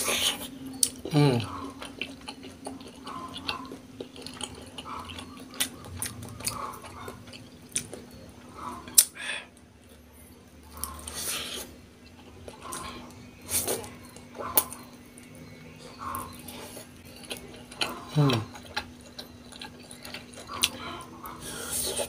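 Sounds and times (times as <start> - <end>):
close chewing: 0.0 - 22.0
faint steady hum: 0.0 - 22.0.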